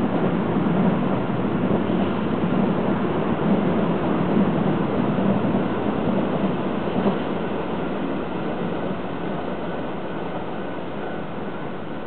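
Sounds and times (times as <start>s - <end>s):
train rumbling along rails: 0.0s - 12.0s.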